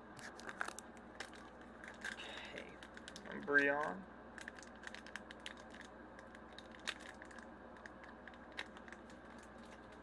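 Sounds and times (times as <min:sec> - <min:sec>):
foil pack crinkling: 0:00.2 - 0:10.0.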